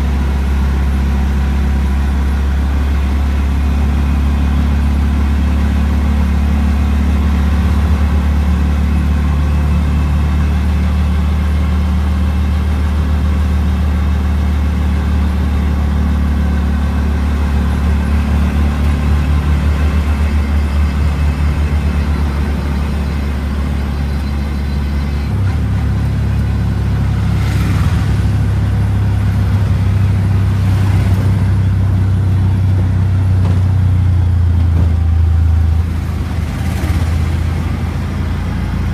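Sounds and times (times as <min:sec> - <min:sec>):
autorickshaw engine droning: 0:00.0 - 0:38.9.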